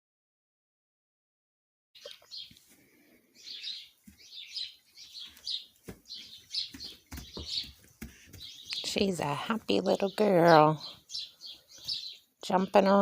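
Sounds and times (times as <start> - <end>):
small birds chirping: 2.0 - 13.0.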